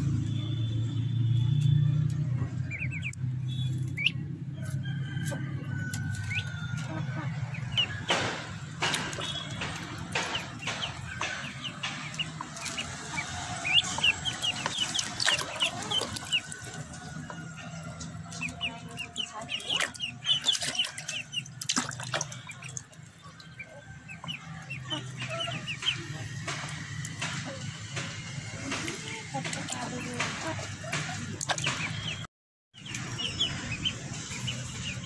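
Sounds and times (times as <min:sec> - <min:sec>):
ducklings peeping: 0:00.9 - 0:35.0
water splashing: 0:05.9 - 0:35.0.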